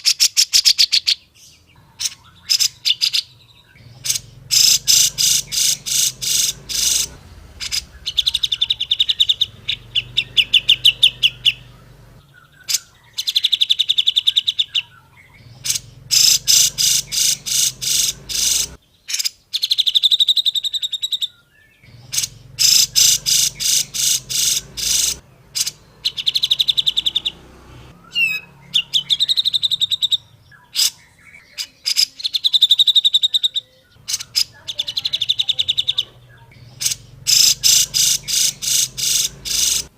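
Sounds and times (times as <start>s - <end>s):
bird singing harsh notes and trills: 0.0s - 39.9s.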